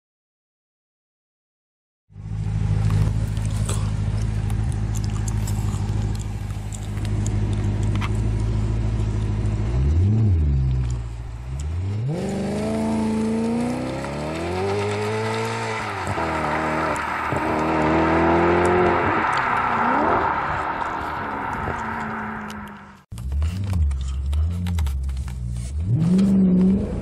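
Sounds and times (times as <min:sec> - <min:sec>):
car engine idling and revving: 0:02.1 - 0:27.0.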